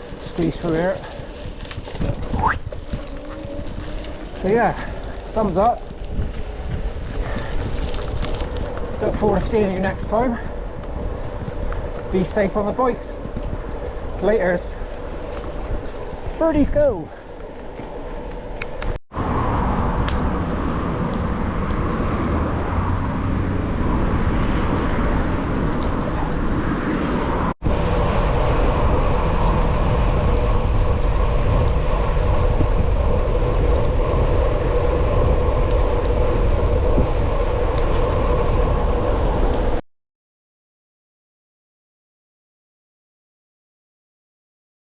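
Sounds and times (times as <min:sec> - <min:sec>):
bike riding rumble and wind: 0:00.0 - 0:39.8.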